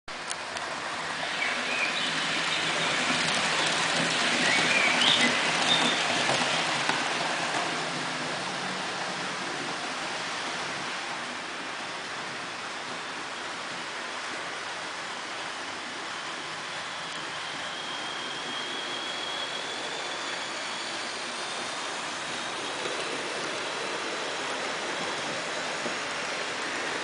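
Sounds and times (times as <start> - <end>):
model train wheels on rails: 0.1 - 27.0.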